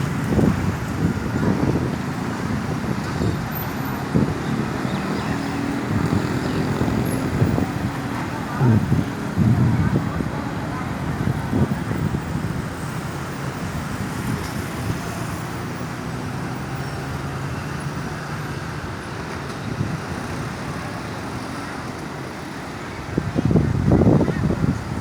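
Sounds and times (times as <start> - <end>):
engine hum: 0.0 - 25.0
road traffic rumble: 0.0 - 25.0.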